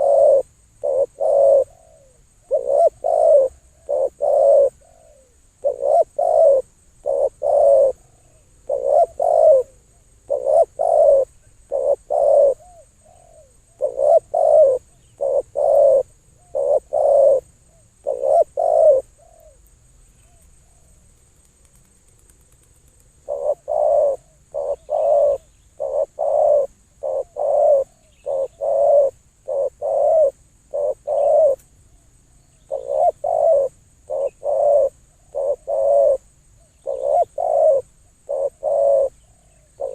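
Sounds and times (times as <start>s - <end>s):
dove cooing: 0.0s - 19.6s, 22.6s - 31.6s, 32.5s - 39.9s.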